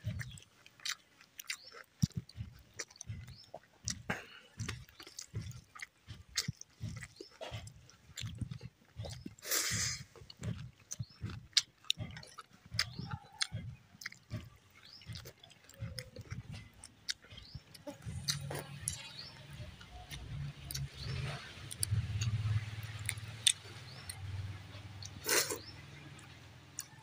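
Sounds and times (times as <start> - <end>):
wet chewing and lip clicks: 0.0 - 27.0
low steady hum: 2.0 - 27.0.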